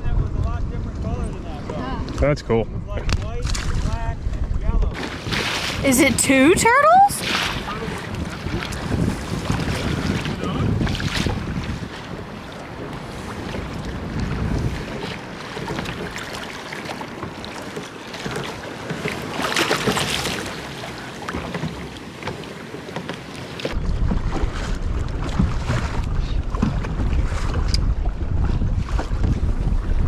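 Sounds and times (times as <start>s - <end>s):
wind buffeting microphone: 0.0s - 21.8s, 23.7s - 30.0s
sea water lapping and splashing: 3.1s - 30.0s
rush of water: 3.4s - 30.0s.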